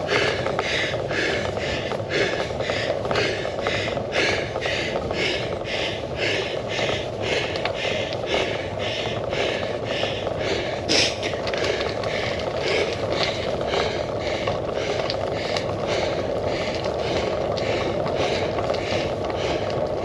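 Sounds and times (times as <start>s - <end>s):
person breathing hard: 0.0s - 20.0s.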